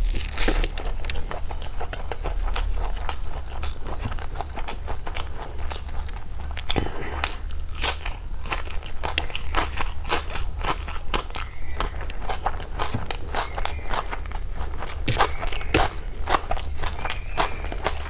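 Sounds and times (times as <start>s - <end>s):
crunchy chewing: 0.0s - 18.0s.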